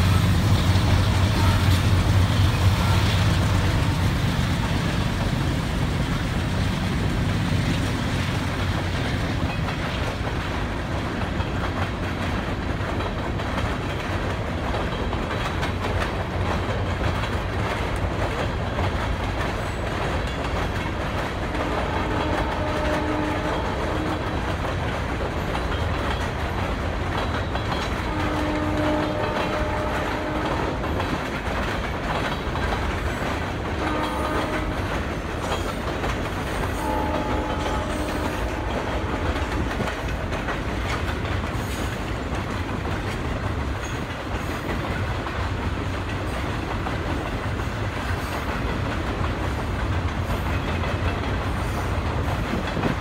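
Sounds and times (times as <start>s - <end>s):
diesel locomotive engine drone: 0.0s - 53.0s
wheels clacking on rail: 0.0s - 53.0s.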